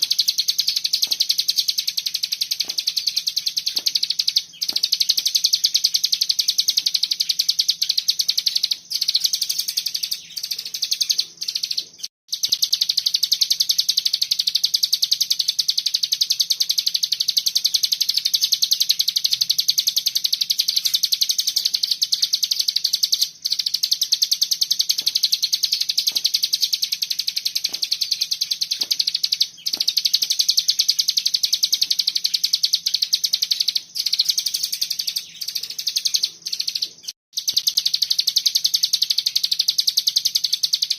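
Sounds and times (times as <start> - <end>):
songbird chattering trill: 0.0 - 40.9.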